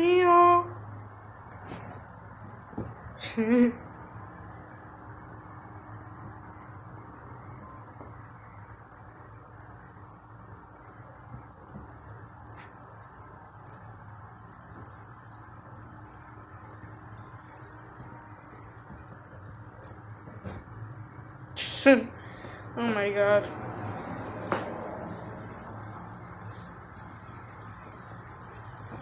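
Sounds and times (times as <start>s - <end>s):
cat toy jingling: 0.0s - 29.0s.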